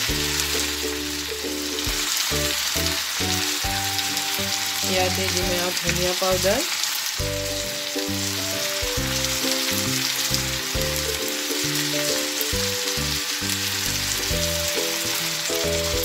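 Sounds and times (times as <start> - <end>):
background music with bass line: 0.0 - 6.6, 7.2 - 16.0
chicken and onions sizzling: 0.0 - 16.0.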